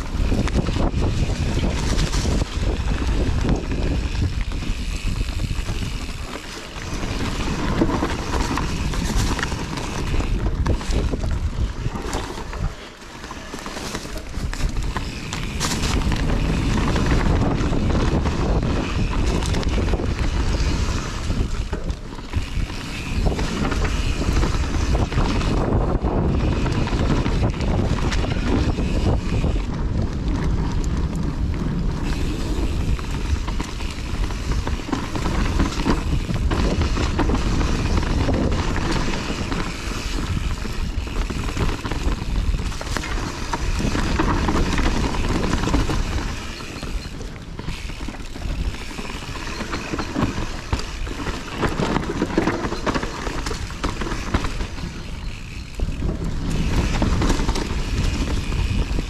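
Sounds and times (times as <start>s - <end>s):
bike rattling and knocking: 0.0s - 59.0s
tyres rolling over dirt: 0.0s - 59.0s
wind noise on camera: 0.0s - 59.0s.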